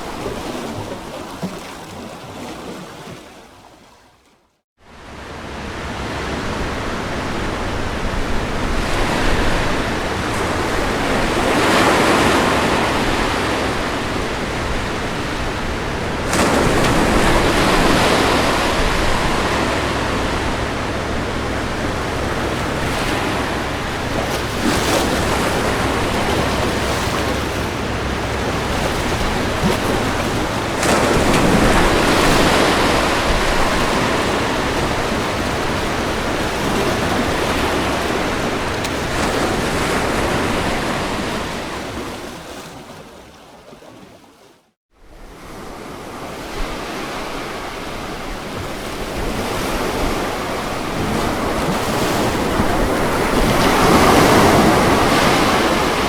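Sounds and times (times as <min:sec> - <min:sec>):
ocean waves breaking on beach: 0:00.0 - 0:04.0, 0:04.8 - 0:56.0.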